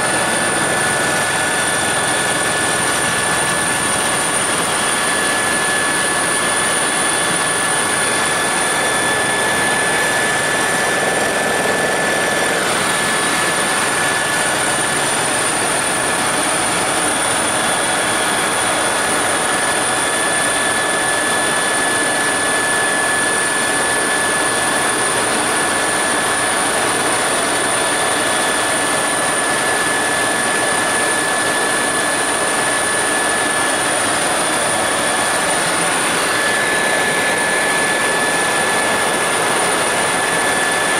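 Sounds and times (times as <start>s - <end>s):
helicopter rotor and engine noise: 0.0s - 40.9s
high-pitched whines: 0.0s - 40.9s.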